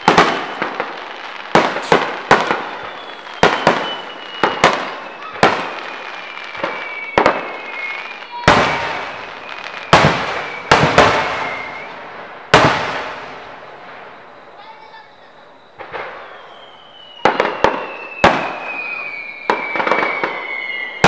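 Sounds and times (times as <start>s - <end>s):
high whistle sliding down: 0.0s - 12.1s, 14.0s - 21.0s
fireworks bangs: 0.0s - 21.0s.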